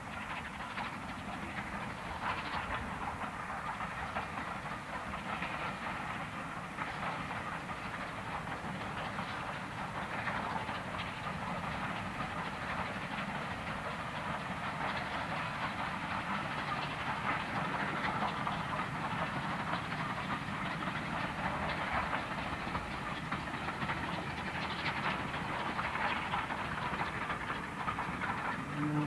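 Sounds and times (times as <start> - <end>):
coaches rumbling on rails: 0.0 - 29.0
steam locomotive exhaust beat: 0.0 - 29.0.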